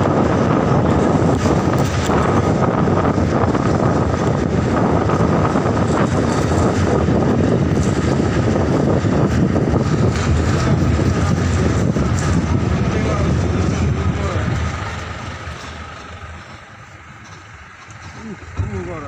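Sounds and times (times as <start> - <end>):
air rushing through open window: 0.0 - 19.0
vehicle running in tunnel: 0.0 - 19.0.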